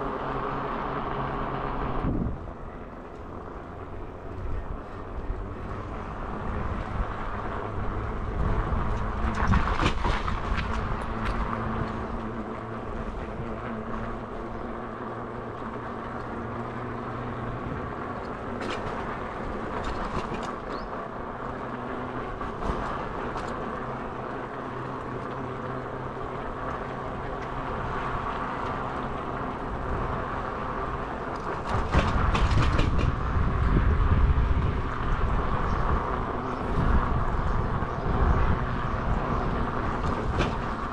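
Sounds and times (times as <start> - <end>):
vehicle engine running: 0.0 - 40.9
wind rumble on microphone: 0.0 - 40.9.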